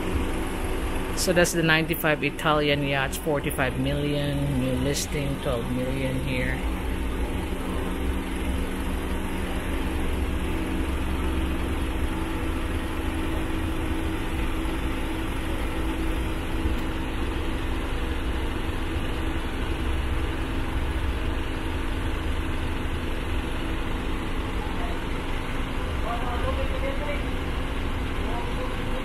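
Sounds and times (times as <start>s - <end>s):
motor idling: 0.0s - 29.0s.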